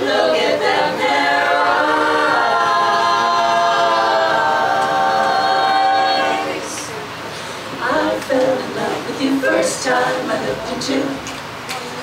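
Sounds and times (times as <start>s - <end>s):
women's vocal group singing in harmony: 0.0s - 11.4s.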